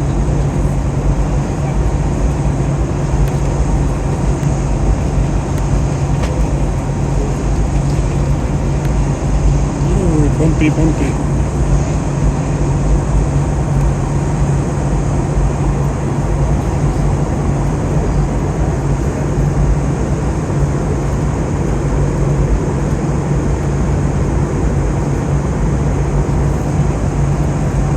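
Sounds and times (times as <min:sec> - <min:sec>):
constant low hum: 0:00.0 - 0:27.9.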